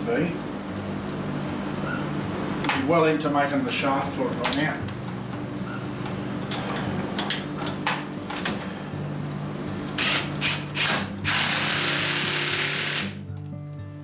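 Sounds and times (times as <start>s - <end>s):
shop machinery humming: 0.0s - 13.3s.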